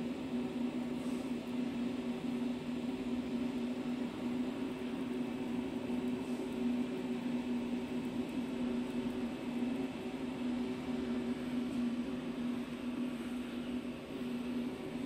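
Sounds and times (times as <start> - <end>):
fan-like hiss: 0.0 - 15.0
laser marking machine hum: 0.0 - 15.0.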